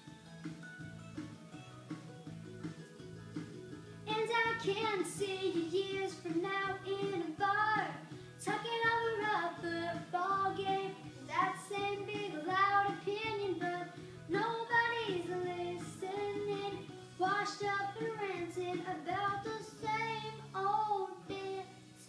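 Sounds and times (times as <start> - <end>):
girl singing pop-country song: 4.0 - 22.0.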